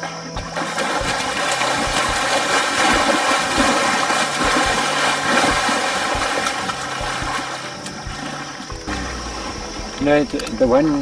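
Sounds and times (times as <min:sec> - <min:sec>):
steady low hum: 0:00.0 - 0:11.0
water splashing and churning: 0:00.0 - 0:11.0.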